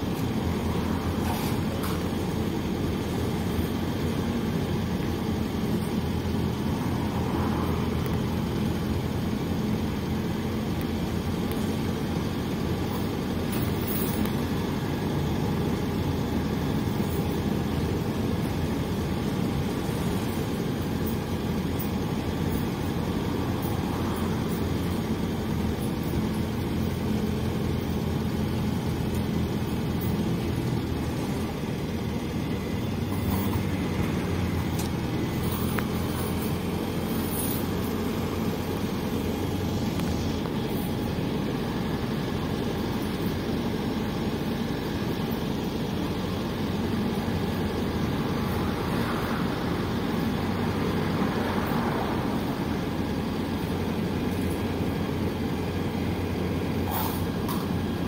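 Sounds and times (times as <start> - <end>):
bus engine drone: 0.0 - 58.0
road and rattle noise: 0.0 - 58.0.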